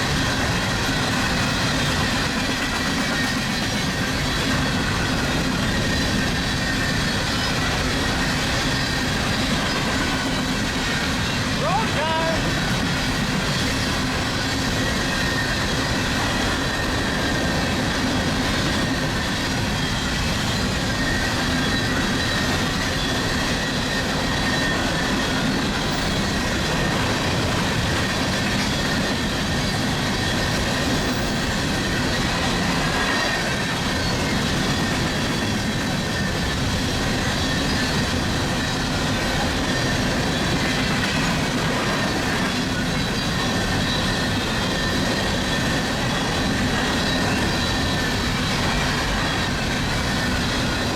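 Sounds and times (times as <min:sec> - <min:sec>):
train cars rumbling on rails: 0:00.0 - 0:50.9.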